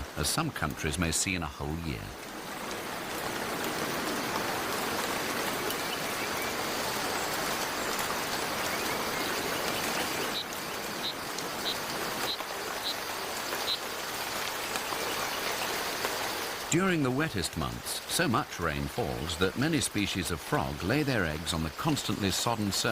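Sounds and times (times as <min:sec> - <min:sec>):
heavy rain on foliage: 0:00.0 - 0:22.9.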